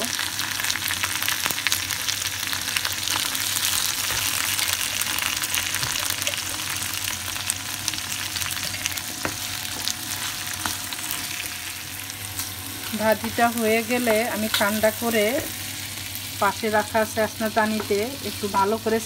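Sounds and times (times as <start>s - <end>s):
vegetables sizzling in hot oil: 0.0s - 19.0s.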